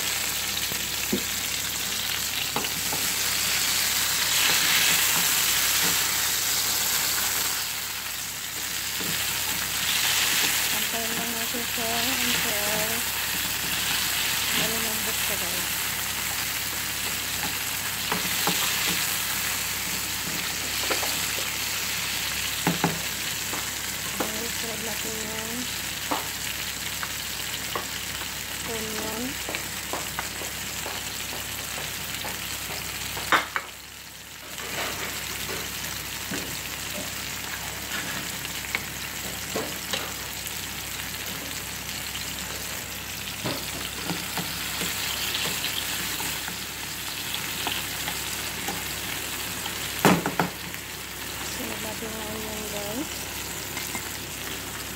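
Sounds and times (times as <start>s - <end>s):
tomatoes sizzling in oil: 0.0s - 54.9s.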